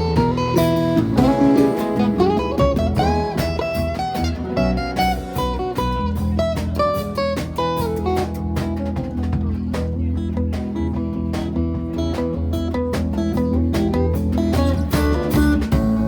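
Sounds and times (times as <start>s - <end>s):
bass guitar: 0.0s - 16.0s
drums: 0.0s - 16.0s
lead guitar with bent notes: 0.0s - 16.0s.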